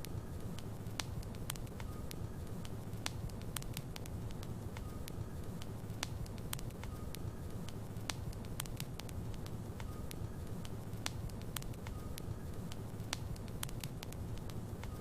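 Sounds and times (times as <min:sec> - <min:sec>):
logs burning in a fireplace: 0:00.0 - 0:15.0.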